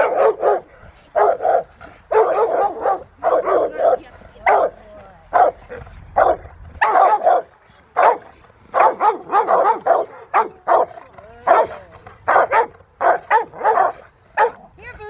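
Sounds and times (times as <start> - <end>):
dog barking hard: 0.0 - 14.7.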